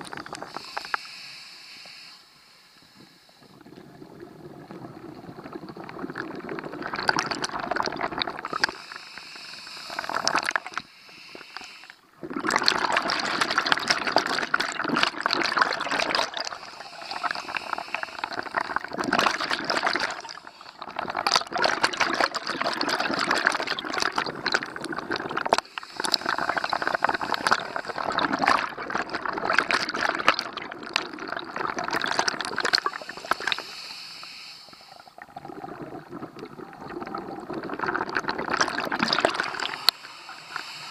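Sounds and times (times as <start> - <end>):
diver's exhaled bubbles: 0.0 - 0.8, 3.5 - 8.8, 9.9 - 10.8, 12.2 - 33.8, 35.0 - 40.0.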